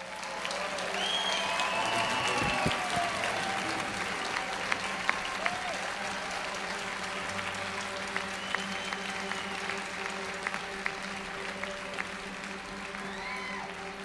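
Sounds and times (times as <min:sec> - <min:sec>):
audience noise: 0:00.0 - 0:14.0
scattered claps: 0:00.0 - 0:14.0.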